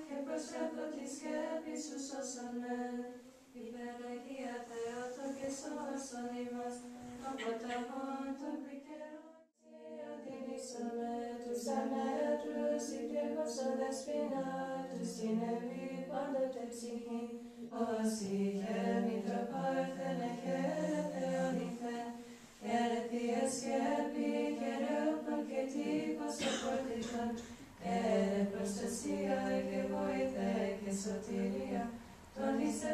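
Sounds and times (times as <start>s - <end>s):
women chanting a cappella: 0.0s - 32.9s.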